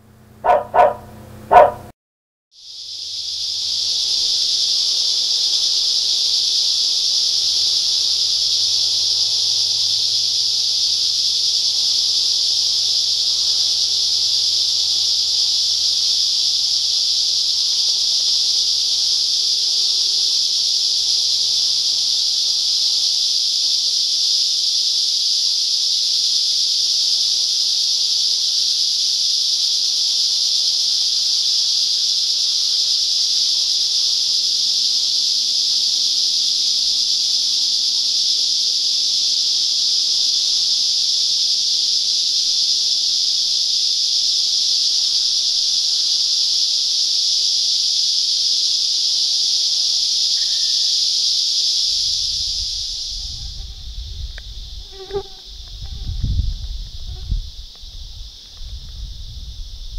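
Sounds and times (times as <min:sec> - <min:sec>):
cicadas buzzing: 0:00.0 - 0:01.9, 0:02.6 - 0:59.9.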